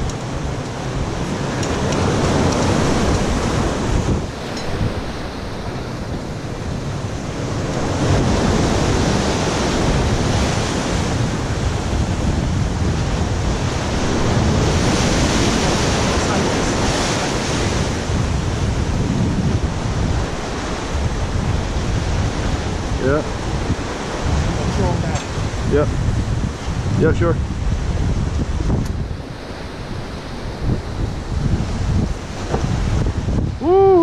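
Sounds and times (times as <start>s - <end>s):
waves breaking against jetty: 0.0s - 34.0s
wind rushing over microphone: 0.0s - 34.0s.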